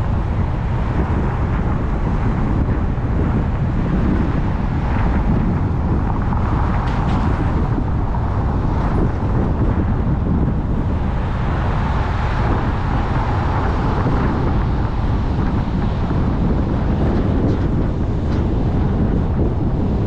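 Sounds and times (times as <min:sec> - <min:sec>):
car road noise: 0:00.0 - 0:20.0
wind noise: 0:00.0 - 0:20.0.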